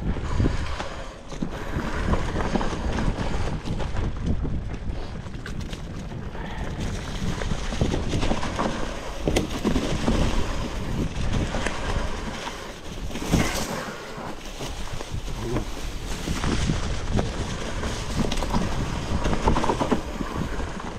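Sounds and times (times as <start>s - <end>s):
bike rattling: 0.0s - 20.9s
wind on microphone: 0.0s - 20.9s
tyres rolling over leafy dirt: 0.4s - 20.9s.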